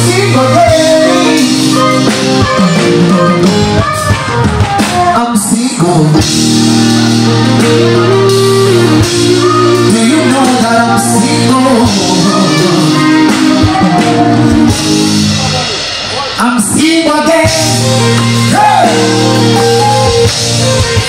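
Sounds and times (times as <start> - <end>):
live band with guitar: 0.0 - 21.0
wordless singing: 0.0 - 21.0.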